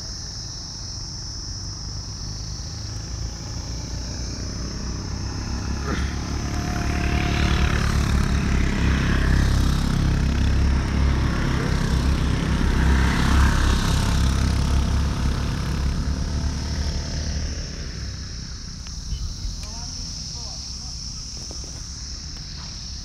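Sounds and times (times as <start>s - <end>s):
motorcycle engine running: 0.0s - 23.0s
passing motorcycles: 0.0s - 23.0s.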